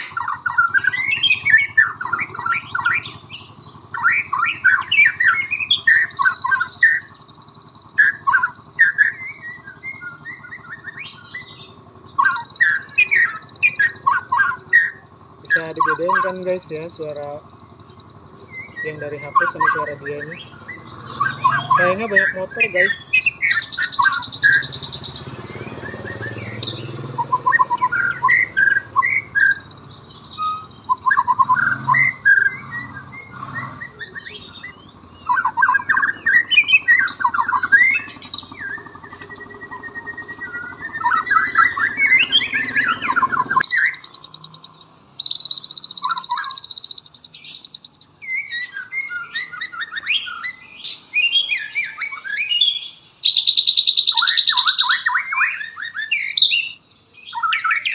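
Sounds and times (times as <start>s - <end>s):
bird singing whistled notes: 0.0s - 57.9s
bird song from phone: 0.0s - 57.9s
motorbike traffic rumble: 0.0s - 57.9s.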